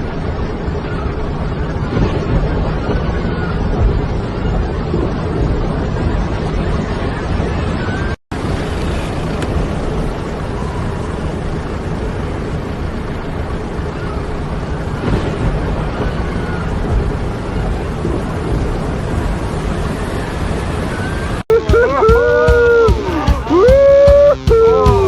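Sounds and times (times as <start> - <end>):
rain: 0.0 - 21.5
wind: 0.0 - 25.0
wind rumbling on microphone: 0.0 - 25.0.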